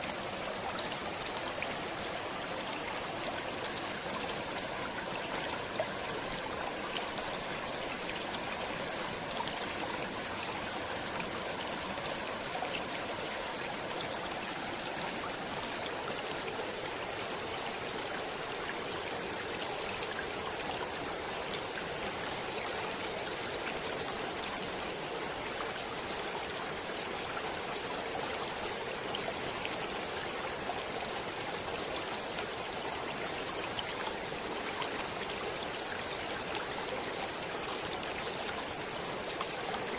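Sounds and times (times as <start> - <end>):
stream water flowing over stones: 0.0 - 39.9.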